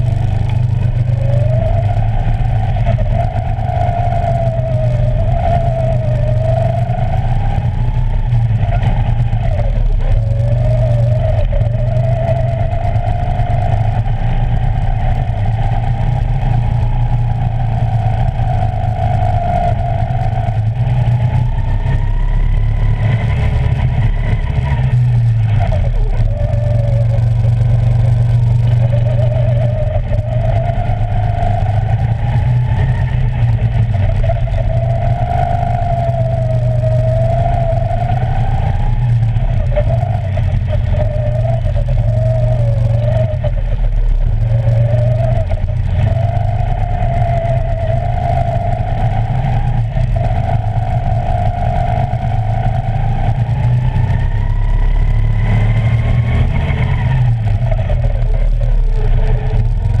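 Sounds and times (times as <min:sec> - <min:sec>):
go-kart engine whine: 0:00.0 - 1:00.0
low rumble: 0:00.0 - 1:00.0.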